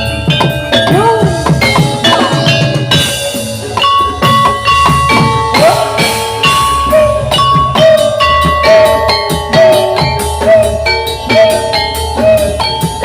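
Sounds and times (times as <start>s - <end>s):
gamelan music over loudspeakers: 0.0s - 13.0s.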